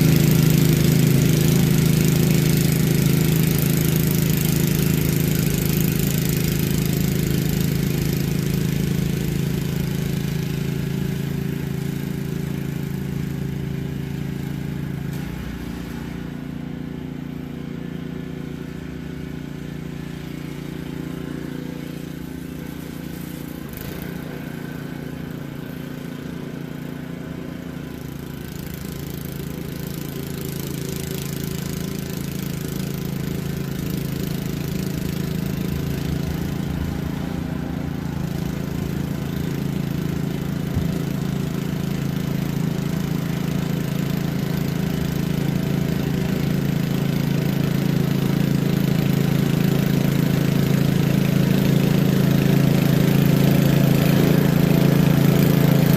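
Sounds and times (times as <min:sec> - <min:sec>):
snowblower engine running: 0:00.0 - 0:55.9.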